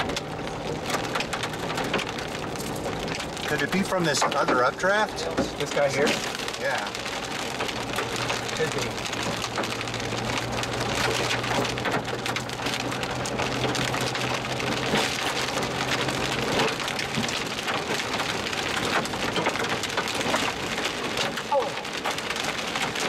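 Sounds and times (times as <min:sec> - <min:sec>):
rain and hail on vehicle roof: 0:00.0 - 0:23.0.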